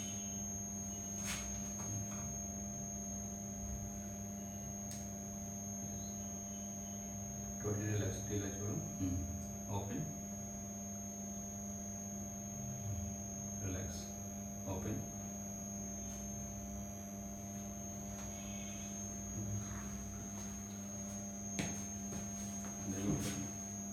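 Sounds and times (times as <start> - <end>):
constant high whine: 0.0 - 23.9
electrical hum: 0.0 - 23.9.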